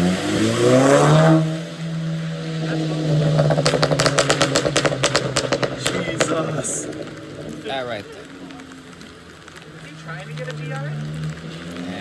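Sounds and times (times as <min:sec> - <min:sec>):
car engine revving: 0:00.0 - 0:12.0
exhaust pops and crackles: 0:00.0 - 0:12.0.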